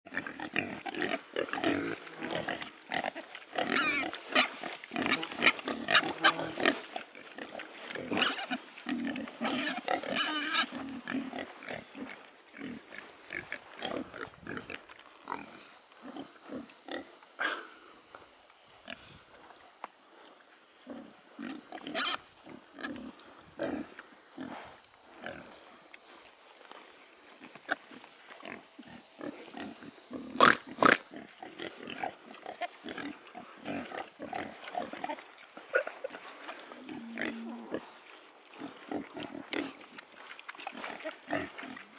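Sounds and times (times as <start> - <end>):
pigs grunting and squealing: 0.1 - 17.6, 20.9 - 25.6, 27.7 - 38.0, 40.6 - 41.9.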